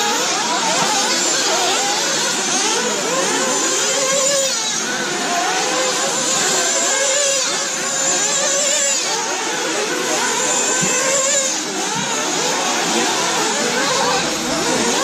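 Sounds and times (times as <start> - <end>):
rc car engines buzzing and revving: 0.0 - 15.0.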